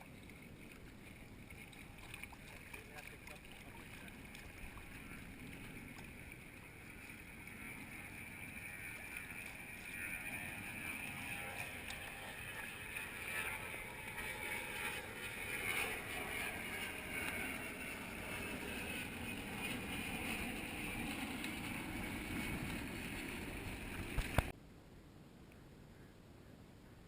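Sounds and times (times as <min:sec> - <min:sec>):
muffled wind and water rush: 0:00.0 - 0:24.7.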